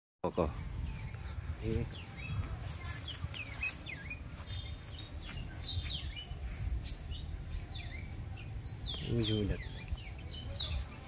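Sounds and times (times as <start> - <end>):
birds chirping and whistling: 0.3 - 11.0
steady low rumble: 0.5 - 11.0.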